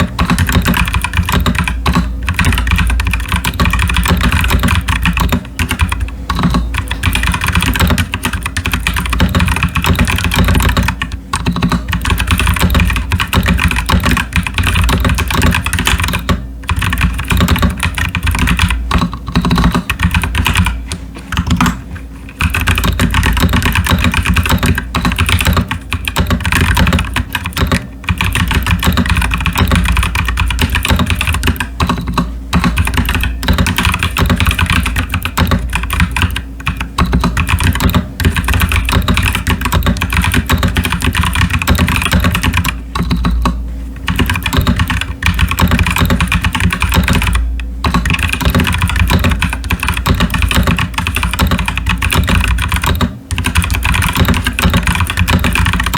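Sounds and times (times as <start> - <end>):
mechanical keyboard typing: 0.0 - 55.9.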